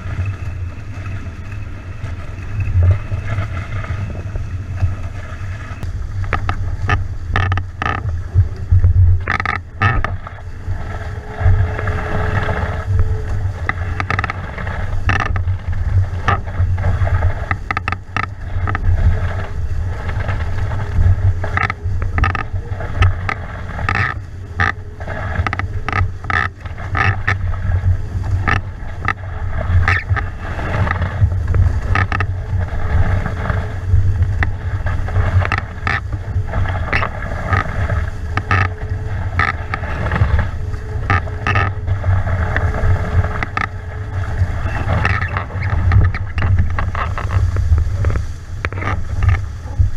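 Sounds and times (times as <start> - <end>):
rushing water: 0.0 - 49.9
water slapping against hulls: 0.0 - 49.9
wind buffeting microphone: 0.0 - 49.9.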